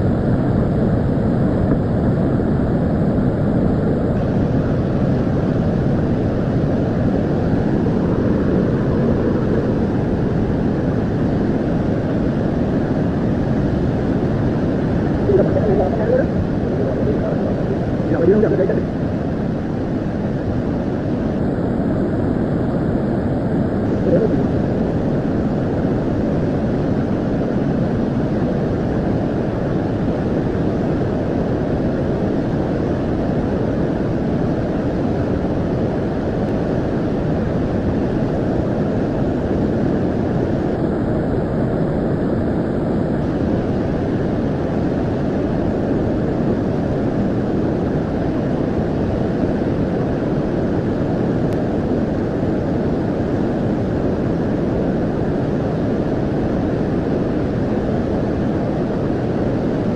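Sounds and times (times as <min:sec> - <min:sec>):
rushing floodwater roar: 0:00.0 - 0:59.9.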